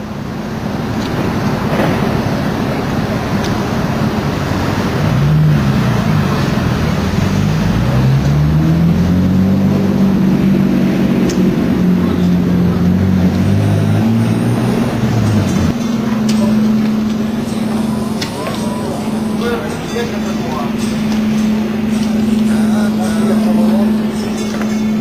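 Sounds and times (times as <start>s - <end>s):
street traffic noise: 0.0s - 25.0s
vehicle engine running: 0.0s - 25.0s.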